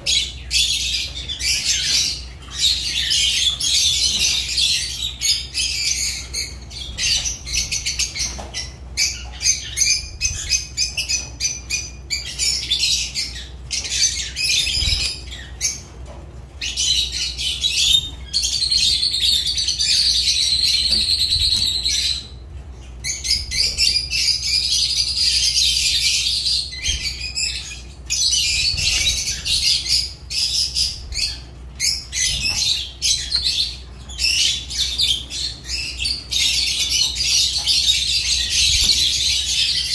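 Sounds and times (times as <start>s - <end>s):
lovebirds chattering: 0.0s - 39.9s.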